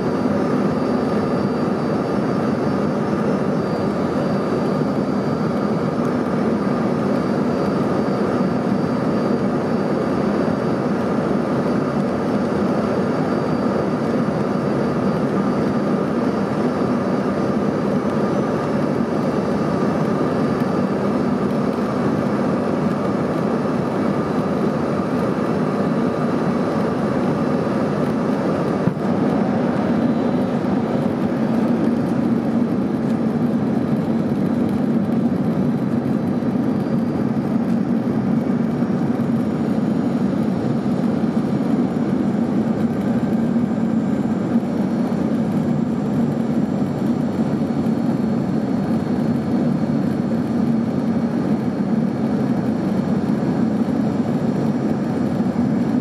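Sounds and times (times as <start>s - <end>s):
faint high whine: 0.0s - 56.0s
jet engines humming: 0.0s - 56.0s.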